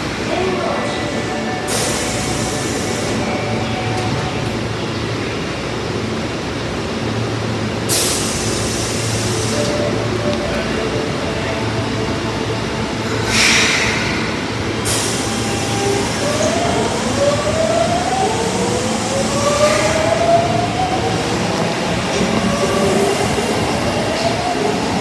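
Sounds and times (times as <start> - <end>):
subway train running rumble: 0.0 - 25.0.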